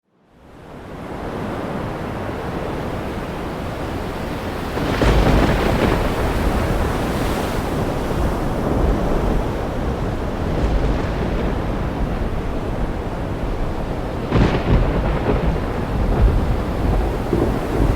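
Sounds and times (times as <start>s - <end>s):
rain falling in a forest: 3.2s - 17.9s.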